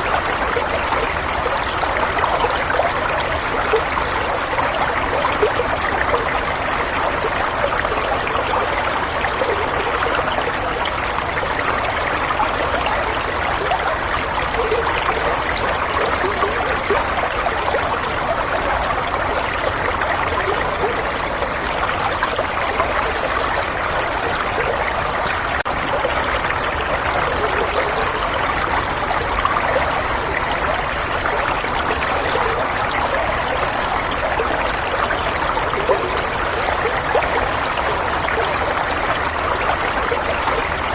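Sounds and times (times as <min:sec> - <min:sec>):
running water flowing: 0:00.0 - 0:40.9.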